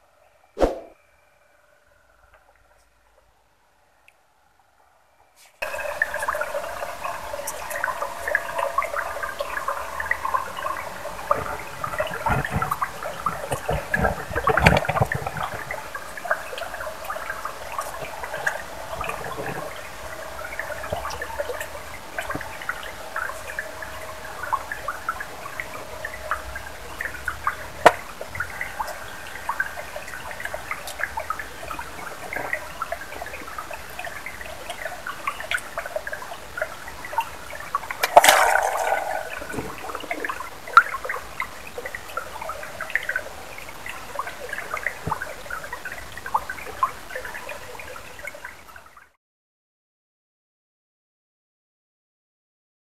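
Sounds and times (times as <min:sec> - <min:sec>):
stream trickling over stones: 0:05.6 - 0:49.2.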